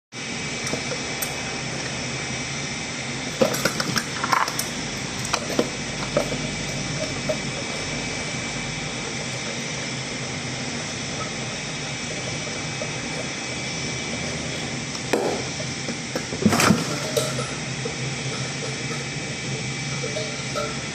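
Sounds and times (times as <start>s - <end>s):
mechanical hum: 0.1s - 20.9s.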